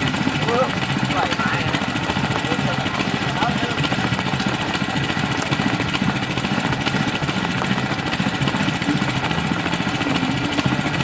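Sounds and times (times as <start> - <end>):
water pump engine running: 0.0 - 11.0.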